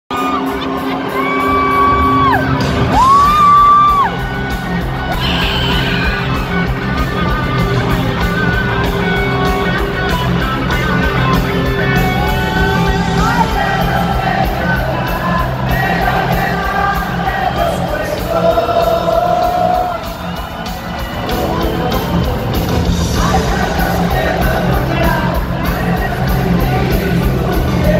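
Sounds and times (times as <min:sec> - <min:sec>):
live rock band in arena: 0:00.1 - 0:27.9.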